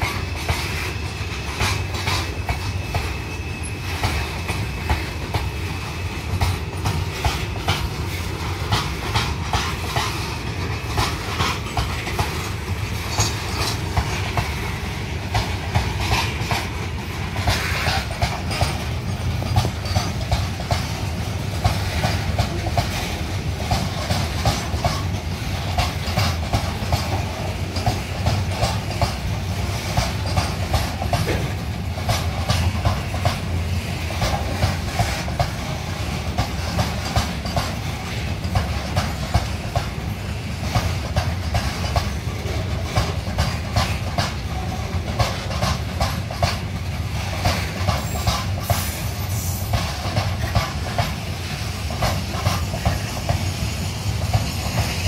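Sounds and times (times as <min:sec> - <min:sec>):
low train rumble: 0:00.0 - 0:55.0
train wheels clicking over rail joints: 0:00.0 - 0:55.0.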